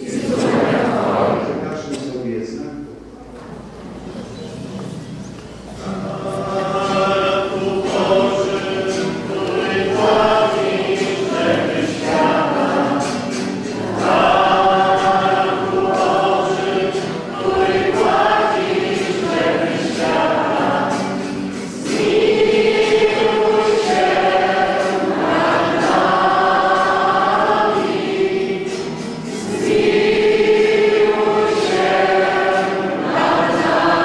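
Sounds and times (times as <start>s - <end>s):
women's choir singing a hymn: 0.0s - 1.6s, 5.8s - 34.0s.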